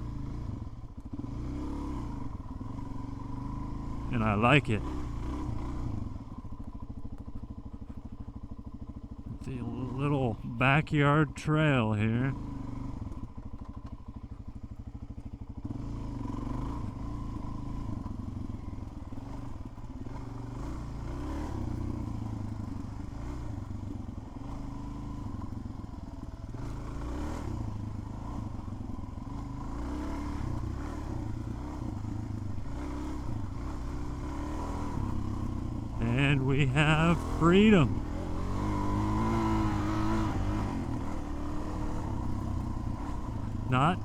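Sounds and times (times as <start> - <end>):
motorcycle engine chugging: 0.0 - 44.0.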